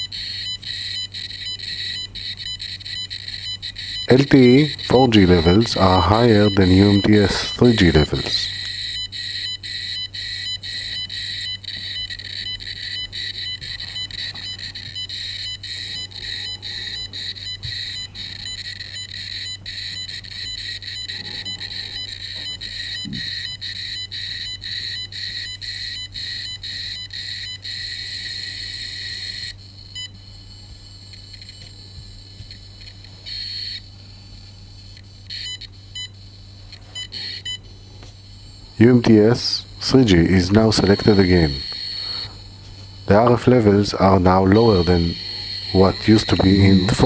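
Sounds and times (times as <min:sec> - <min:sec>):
meter beeping in rapid pulses: 0:00.0 - 0:33.9, 0:34.8 - 0:37.6, 0:38.2 - 0:47.0.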